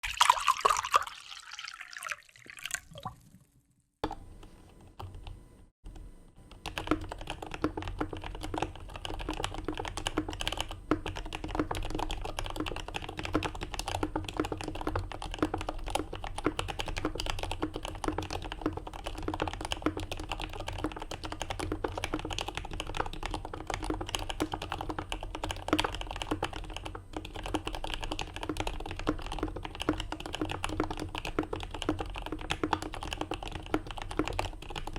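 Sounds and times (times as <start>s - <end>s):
fast mechanical keyboard typing: 6.5s - 34.9s.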